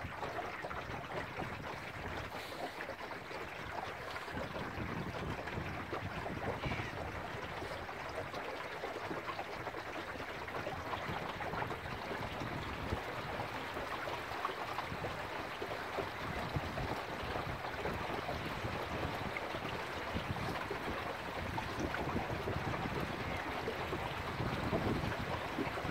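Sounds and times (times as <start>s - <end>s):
water rushing along boat hull: 0.0s - 25.9s.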